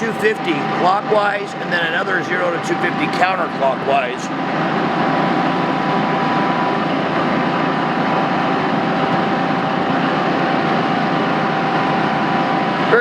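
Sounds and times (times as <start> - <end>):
machinery hum: 0.0 - 13.0
steady whining tones: 0.0 - 13.0.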